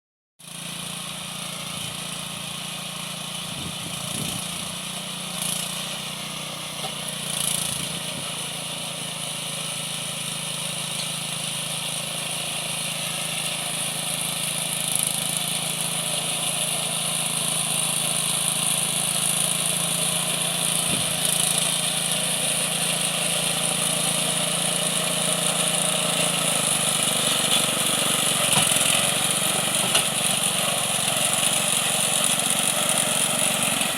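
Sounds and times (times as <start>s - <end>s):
small tractor engine running: 0.4s - 33.9s.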